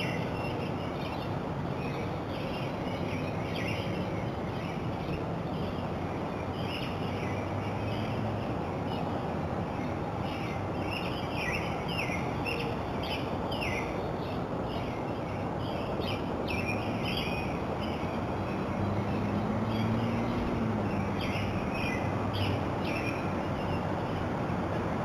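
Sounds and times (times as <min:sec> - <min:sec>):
birds singing and chirping: 0:00.0 - 0:24.4.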